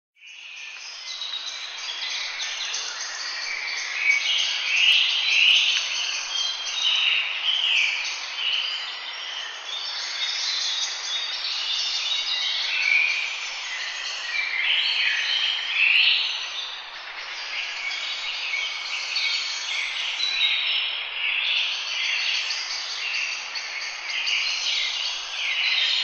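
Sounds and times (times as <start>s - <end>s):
birds chirping and singing: 0.2s - 26.0s.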